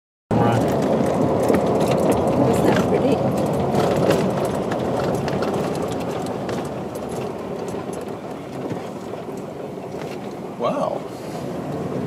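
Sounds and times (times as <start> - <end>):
tyre and road noise: 0.3 - 12.0
small clicks and rattles: 0.5 - 10.4.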